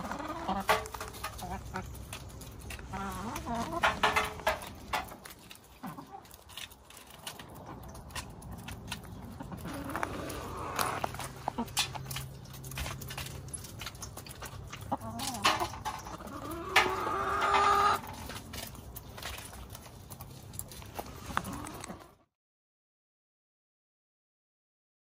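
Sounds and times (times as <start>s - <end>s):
hens clucking: 0.0s - 22.3s.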